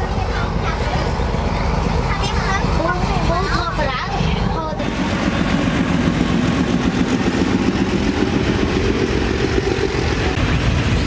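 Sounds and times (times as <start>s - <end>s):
diesel locomotive engine drone: 0.0s - 11.0s
freight train rumble: 0.0s - 11.0s.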